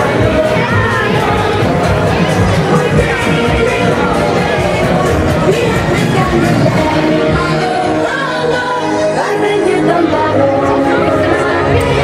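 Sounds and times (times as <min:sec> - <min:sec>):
music with singing: 0:00.0 - 0:12.0.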